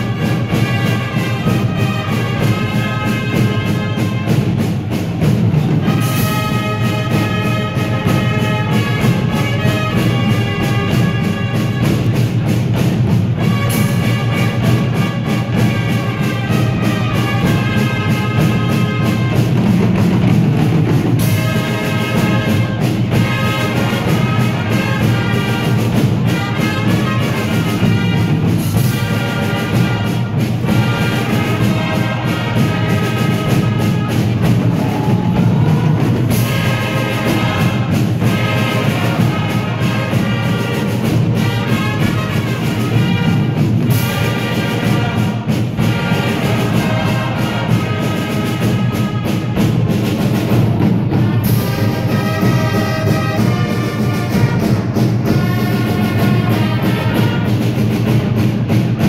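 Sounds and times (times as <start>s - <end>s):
bass drum: 0.0s - 59.0s
fanfare trumpets: 0.0s - 59.0s
marching drums: 0.0s - 59.0s.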